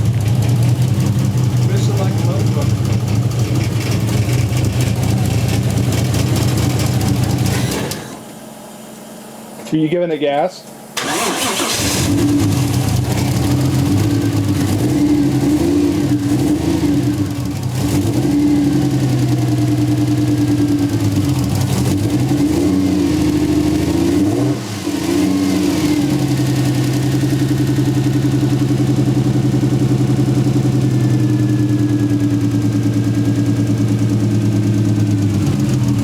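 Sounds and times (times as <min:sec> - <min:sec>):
misfiring car engine revving: 0:00.0 - 0:08.3, 0:11.0 - 0:36.0.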